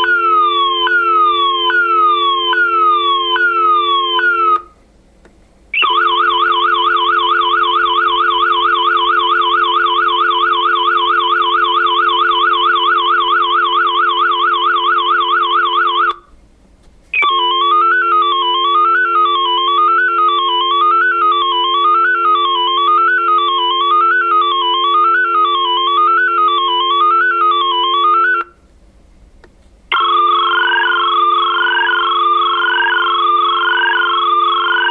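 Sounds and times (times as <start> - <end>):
phone dial tone: 0.0 - 4.7, 5.8 - 16.3, 17.2 - 28.6, 29.9 - 34.9.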